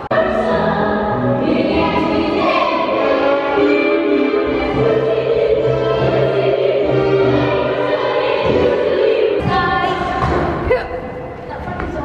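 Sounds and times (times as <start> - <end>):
music with choir singing: 0.0 - 10.6.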